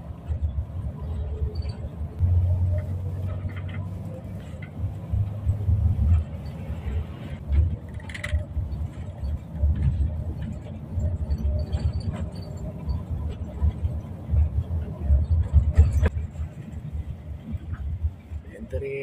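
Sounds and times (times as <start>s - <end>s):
bus engine and tyres rumbling: 0.0s - 19.0s.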